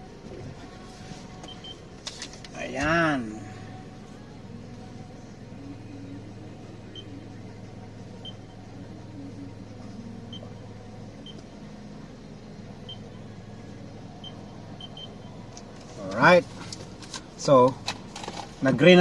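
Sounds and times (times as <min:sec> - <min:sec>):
car engine idling hum: 0:00.0 - 0:19.0.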